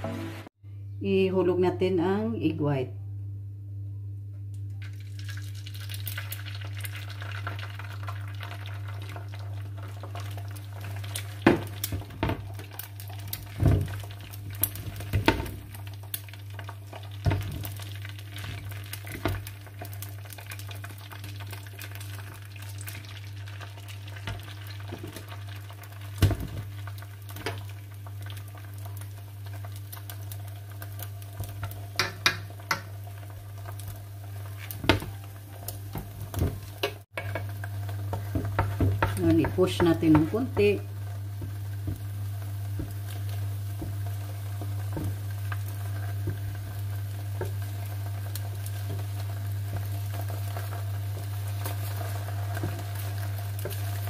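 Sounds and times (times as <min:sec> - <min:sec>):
egg frying in pan: 0:04.8 - 0:54.0.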